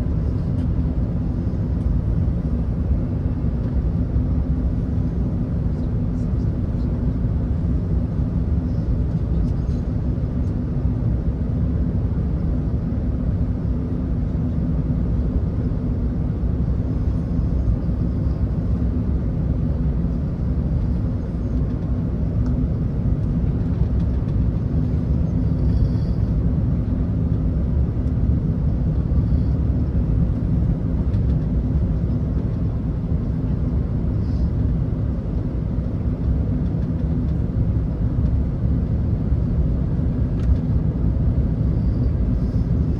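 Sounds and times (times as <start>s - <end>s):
airplane cabin engine rumble: 0.0s - 42.9s
faint constant hum: 0.0s - 42.9s.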